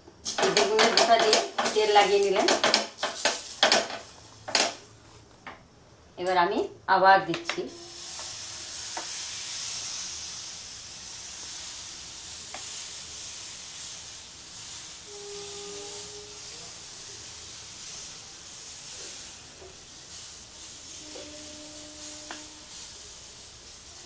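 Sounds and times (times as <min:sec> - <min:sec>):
batter sizzling on hot pan: 0:00.0 - 0:05.2, 0:07.7 - 0:24.0.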